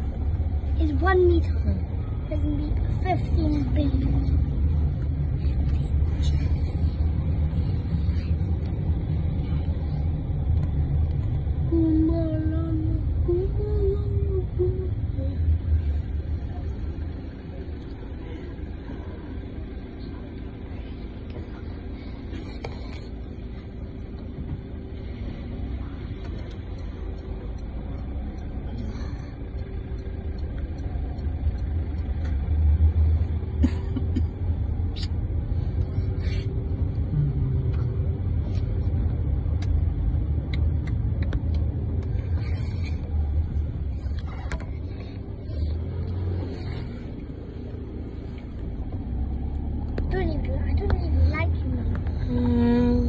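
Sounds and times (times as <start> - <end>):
car engine drone: 0.0 - 53.0
road rumble: 0.0 - 53.0.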